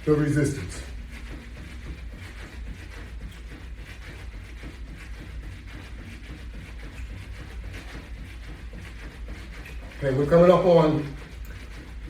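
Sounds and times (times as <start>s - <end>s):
footfalls jogging on floor: 0.0s - 12.0s
low room hum: 0.0s - 12.0s.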